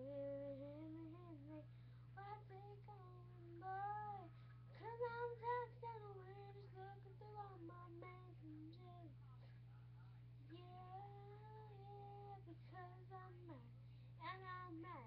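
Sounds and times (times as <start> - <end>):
girl singing unaccompanied: 0.0 - 9.2, 10.5 - 15.0.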